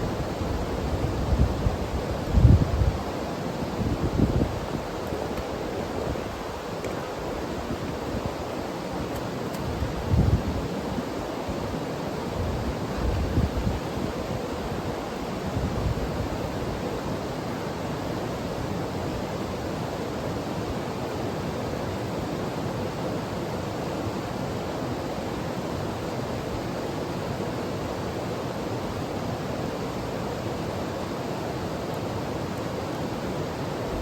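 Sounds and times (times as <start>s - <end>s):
mountain stream rushing: 0.0s - 34.0s.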